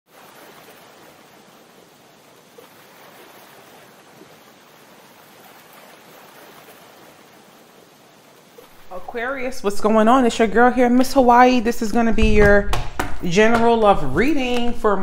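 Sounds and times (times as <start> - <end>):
ocean surf rushing: 0.1 - 12.2.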